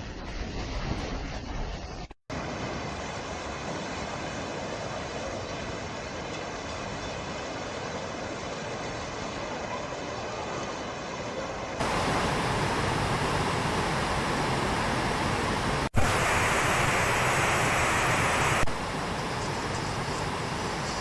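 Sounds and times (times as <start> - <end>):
rushing water: 2.3 - 21.0.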